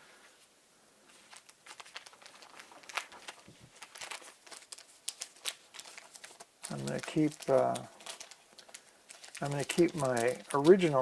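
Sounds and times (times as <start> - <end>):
small plastic clicks and crinkling: 1.2 - 11.0.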